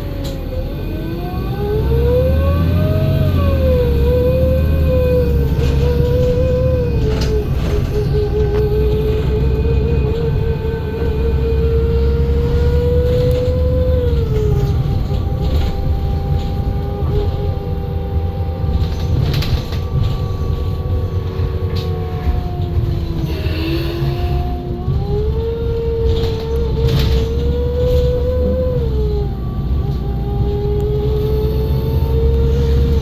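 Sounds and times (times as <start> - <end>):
bus engine rumbling: 0.0 - 33.0
transmission whine: 0.0 - 33.0.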